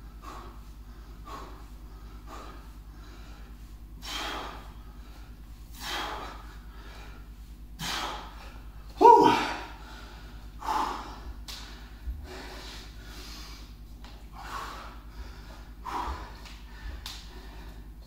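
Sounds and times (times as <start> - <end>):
man breathing hard: 0.0 - 18.0.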